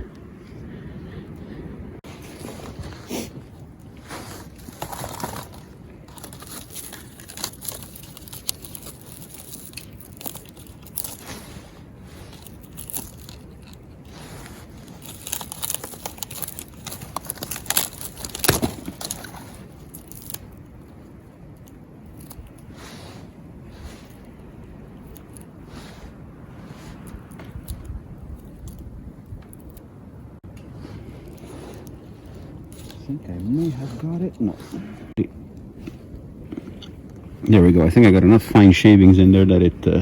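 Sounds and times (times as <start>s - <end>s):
dry tinder tearing and crinkling: 2.1s - 30.0s, 30.6s - 34.8s.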